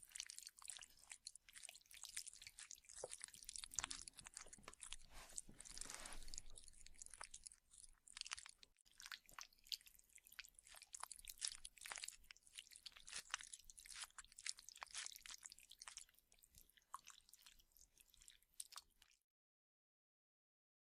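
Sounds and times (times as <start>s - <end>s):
wet chewing and squelching: 0.0s - 19.2s.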